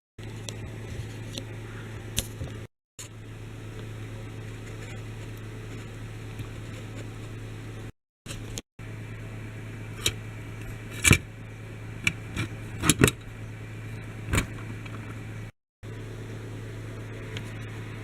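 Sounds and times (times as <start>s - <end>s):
steady low hum: 0.2s - 18.0s.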